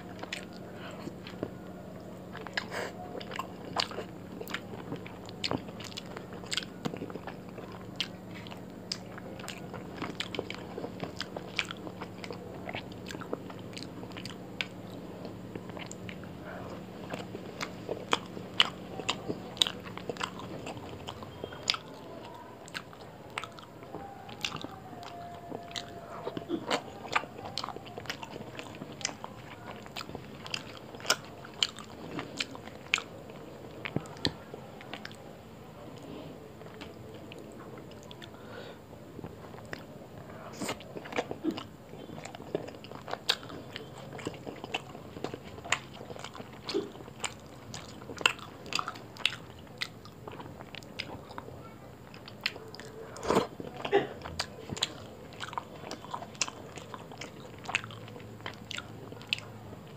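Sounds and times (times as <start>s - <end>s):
food crunching: 0.0s - 59.9s
man chewing food: 0.0s - 59.9s.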